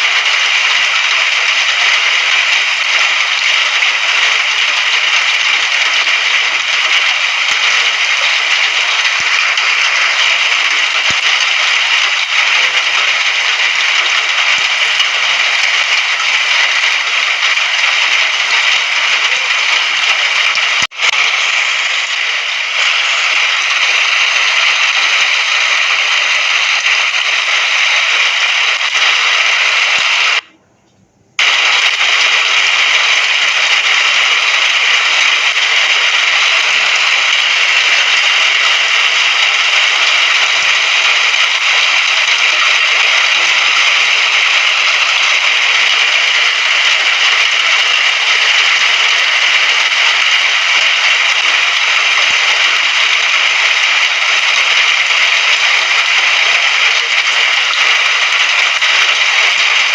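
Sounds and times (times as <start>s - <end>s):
rain falling: 0.0s - 30.5s, 31.4s - 59.9s.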